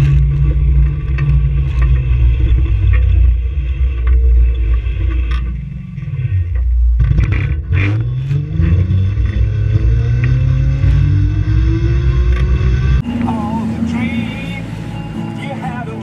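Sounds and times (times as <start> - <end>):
road and wind rumble: 0.0 - 16.0.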